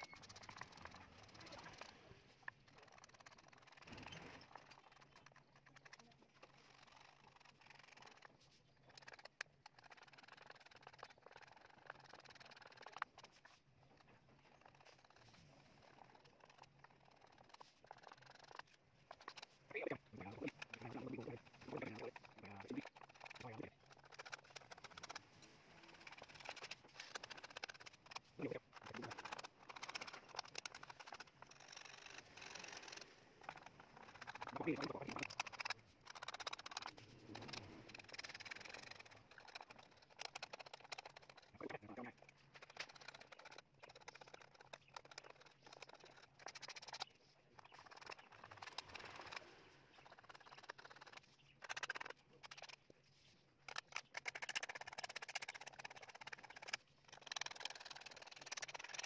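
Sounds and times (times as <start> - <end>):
scraping tool rasping on wood: 0.0 - 52.8.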